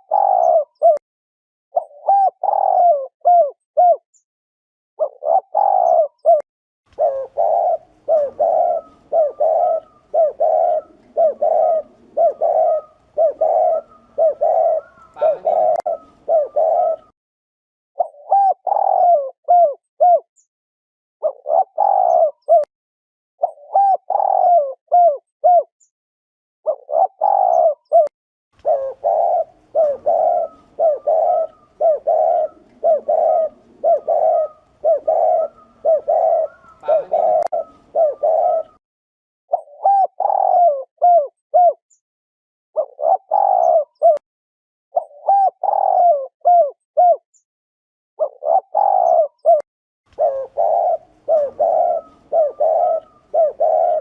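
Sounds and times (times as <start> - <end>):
dove cooing: 0.0 - 1.0, 1.8 - 4.0, 5.0 - 17.2, 18.0 - 20.3, 21.2 - 22.7, 23.4 - 25.7, 26.7 - 38.8, 39.5 - 41.8, 42.8 - 44.2, 45.0 - 47.2, 48.2 - 54.0.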